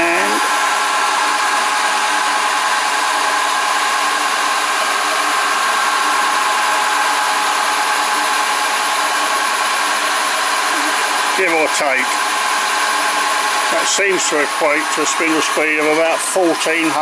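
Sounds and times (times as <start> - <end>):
milling machine humming and whining: 0.0 - 17.0.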